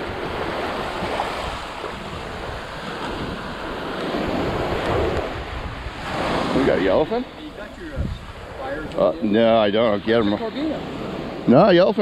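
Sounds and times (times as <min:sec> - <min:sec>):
wind rumbling on microphone: 0:00.0 - 0:11.6
surf waves breaking on beach: 0:00.0 - 0:12.0.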